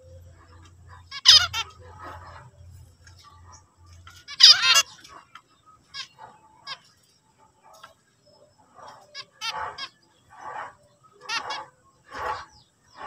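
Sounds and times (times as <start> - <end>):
finches calling: 0.0 - 13.0.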